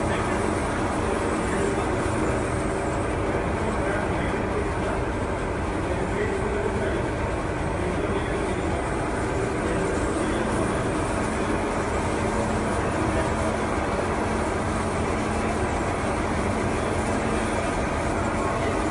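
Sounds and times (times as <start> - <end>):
processing machinery rumbling: 0.0 - 18.9.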